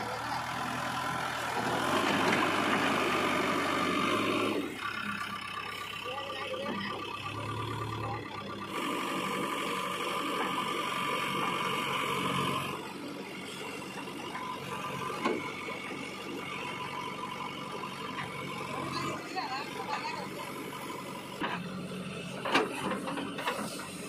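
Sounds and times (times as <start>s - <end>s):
diesel engine running: 0.0s - 24.0s
hydraulics whine: 0.0s - 24.0s.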